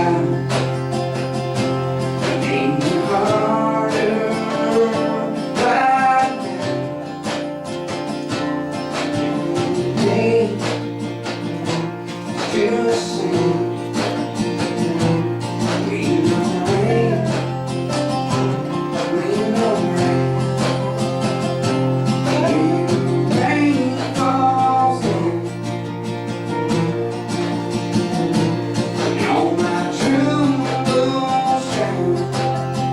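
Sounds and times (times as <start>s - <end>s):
person singing: 0.0s - 1.0s, 2.1s - 7.3s, 9.1s - 11.0s, 11.6s - 21.4s, 22.2s - 25.9s, 27.0s - 32.9s
strummed acoustic guitar: 0.0s - 32.9s.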